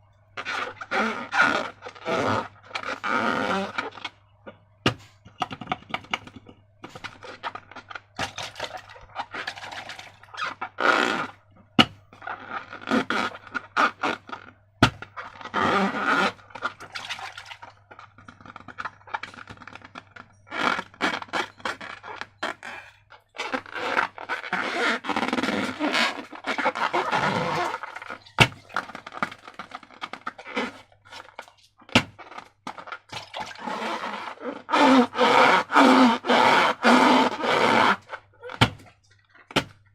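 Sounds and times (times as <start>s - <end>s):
rubber balloons rubbing: 0.4s - 4.2s, 4.9s - 39.9s.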